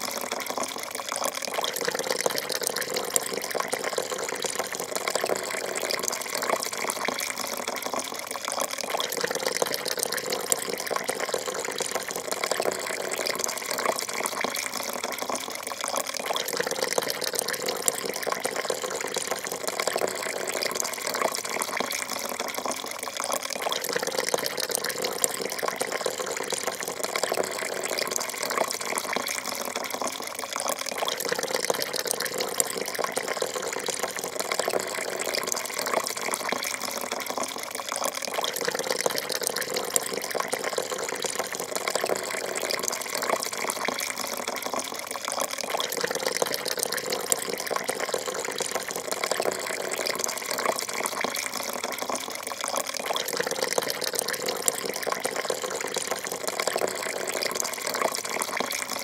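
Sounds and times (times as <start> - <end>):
coffee pouring into cup: 0.0 - 59.0.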